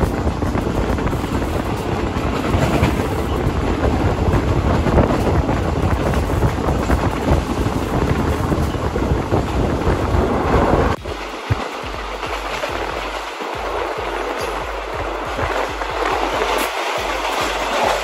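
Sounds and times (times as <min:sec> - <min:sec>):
train carriage rumble: 0:00.0 - 0:18.0
wind buffeting microphone: 0:00.0 - 0:18.0.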